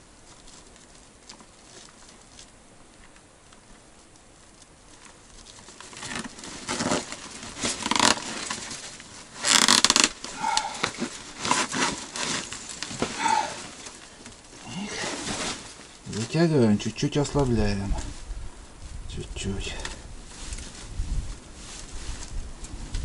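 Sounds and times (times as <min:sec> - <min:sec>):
rope and twigs rustling and scraping: 0:00.0 - 0:23.0.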